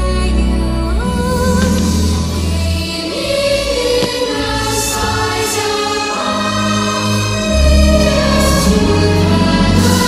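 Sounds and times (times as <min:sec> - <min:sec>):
choir singing held notes: 0:01.8 - 0:10.0.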